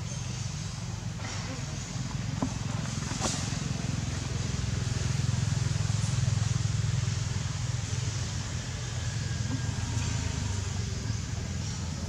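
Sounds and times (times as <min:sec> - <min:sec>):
steady outdoor hiss: 0:00.0 - 0:12.0
vehicle engine running: 0:00.0 - 0:12.0.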